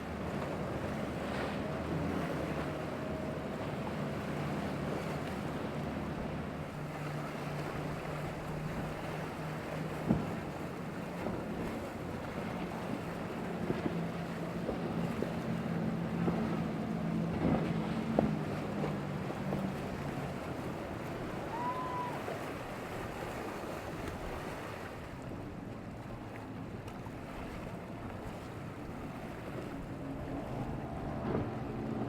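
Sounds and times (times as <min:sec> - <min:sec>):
outboard motor droning: 0:00.0 - 0:32.0
waves washing: 0:00.0 - 0:32.0.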